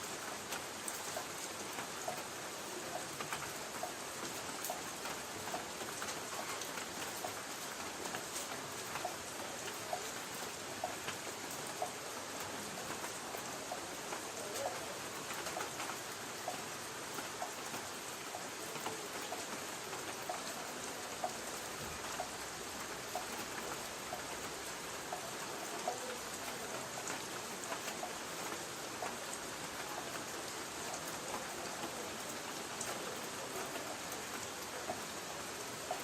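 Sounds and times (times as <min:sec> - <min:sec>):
rain on a tin roof: 0:00.0 - 0:36.0.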